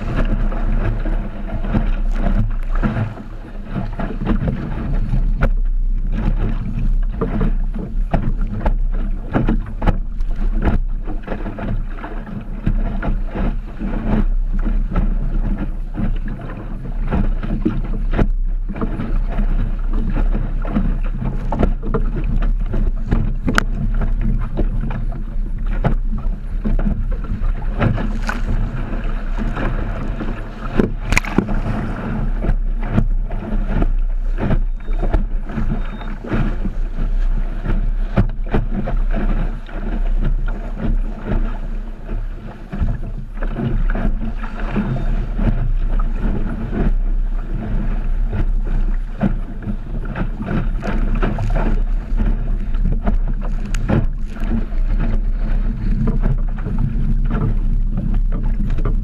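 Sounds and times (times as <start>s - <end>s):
boat slapping into waves: 0.0s - 59.0s
water splashing against boat hull: 0.0s - 59.0s
wind buffeting microphone: 0.0s - 59.0s.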